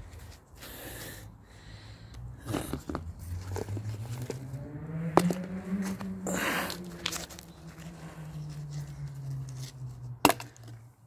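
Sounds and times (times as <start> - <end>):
scraping and crunching handling noise: 0.0 - 1.1, 2.4 - 11.0.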